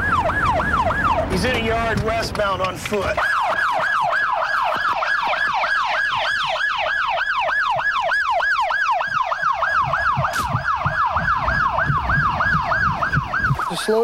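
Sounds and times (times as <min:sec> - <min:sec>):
police siren yelping: 0:00.0 - 0:14.0.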